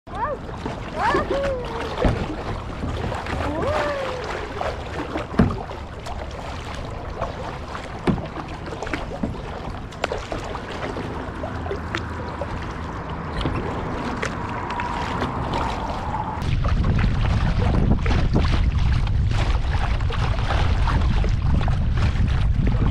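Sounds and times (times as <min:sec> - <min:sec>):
paddle splashing in water: 0:00.1 - 0:22.9
water lapping against hull: 0:00.1 - 0:22.9.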